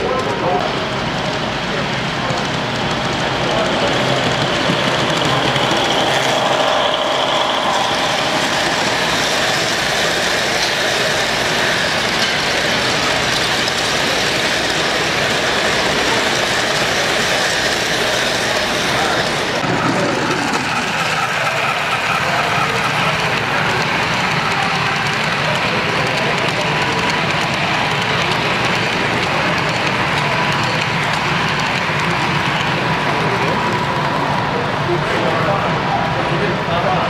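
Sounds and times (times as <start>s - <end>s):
busy hall din: 0.0s - 37.0s
model trains rolling on track: 0.0s - 37.0s.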